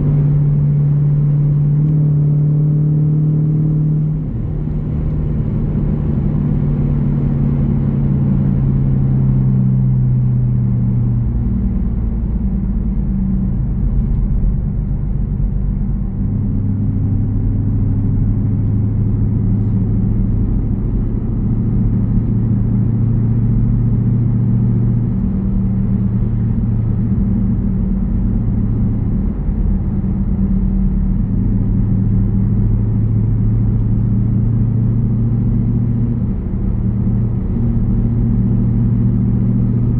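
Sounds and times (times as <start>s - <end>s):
car exhaust rumbling: 0.0s - 39.9s.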